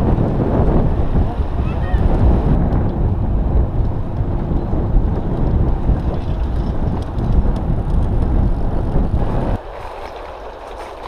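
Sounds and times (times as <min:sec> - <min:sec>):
tyre noise on asphalt: 0:00.0 - 0:11.0
wind buffeting microphone: 0:00.0 - 0:11.0.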